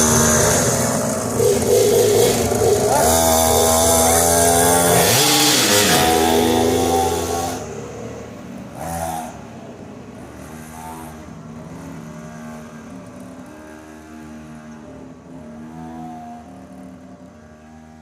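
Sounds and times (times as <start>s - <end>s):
small motorbike engine running: 0.0s - 18.0s.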